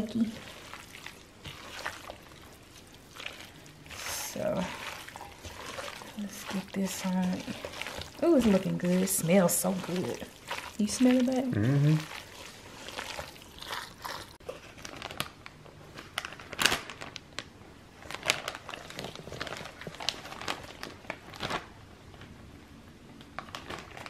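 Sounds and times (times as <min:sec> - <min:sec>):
plastic bag crinkling: 0:00.0 - 0:21.8, 0:23.3 - 0:24.0.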